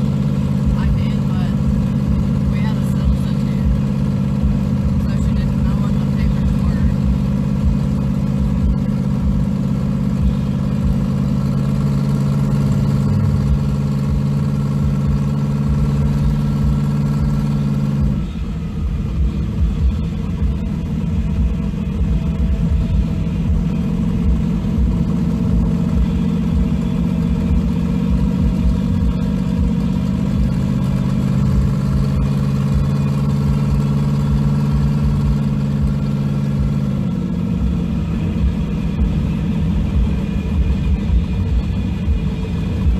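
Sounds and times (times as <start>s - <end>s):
truck engine cruising: 0.0s - 42.9s.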